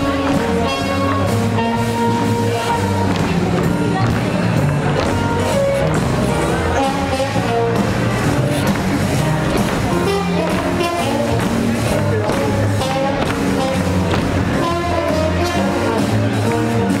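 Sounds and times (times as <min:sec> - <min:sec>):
swing jazz music: 0:00.0 - 0:17.0.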